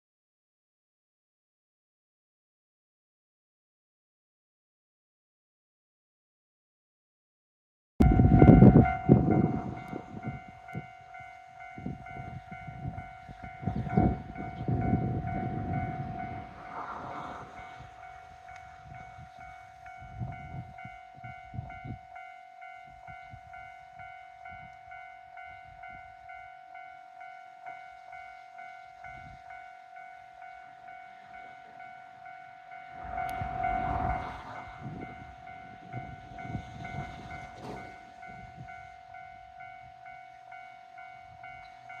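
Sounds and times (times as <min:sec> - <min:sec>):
diesel train rumbling: 0:08.0 - 0:42.0
level crossing warning bell: 0:08.0 - 0:42.0.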